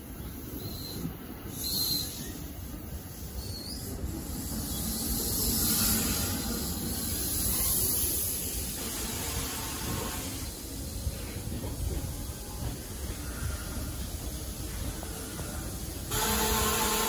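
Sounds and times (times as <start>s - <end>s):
train wheels rumbling on rail: 0.0s - 17.0s
high hiss: 0.4s - 17.0s.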